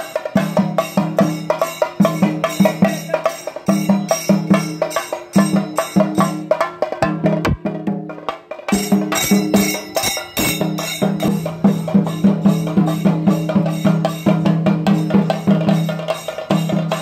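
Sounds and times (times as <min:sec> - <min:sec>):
drums beaten with sticks: 0:00.0 - 0:17.0.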